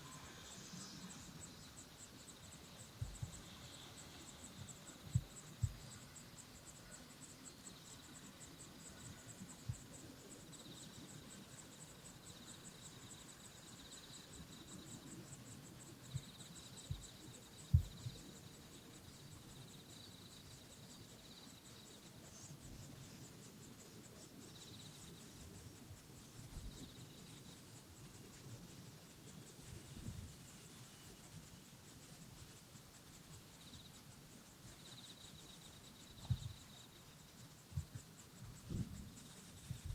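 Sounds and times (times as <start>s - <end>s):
insect pulsing stridulation: 0.0s - 39.9s.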